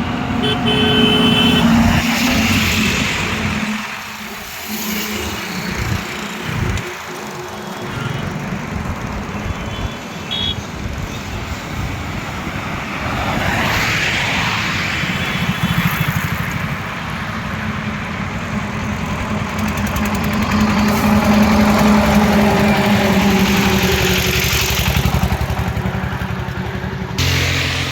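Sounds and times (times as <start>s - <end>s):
steady engine drone: 0.0s - 27.9s
vehicles passing on highway: 0.0s - 27.9s.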